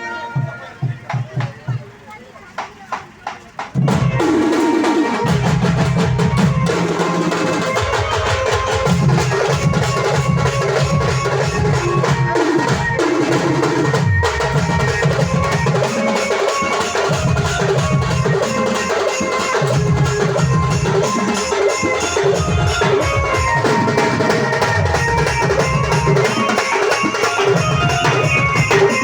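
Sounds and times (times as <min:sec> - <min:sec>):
band music: 0:00.0 - 0:02.3, 0:03.1 - 0:29.0
drum kit beat: 0:00.0 - 0:29.0.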